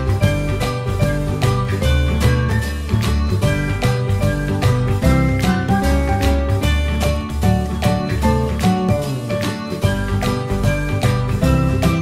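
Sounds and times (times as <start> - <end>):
upbeat music with jingling tones: 0.0 - 12.0.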